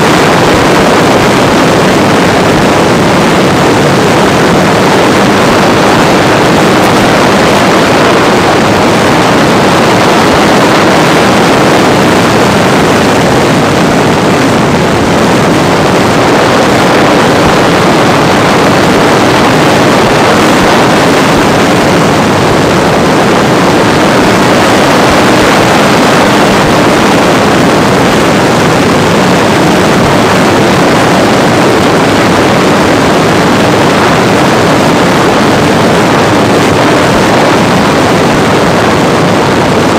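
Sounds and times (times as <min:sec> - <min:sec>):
propeller rushing: 0:00.0 - 0:39.9
wind buffeting microphone: 0:00.0 - 0:39.9.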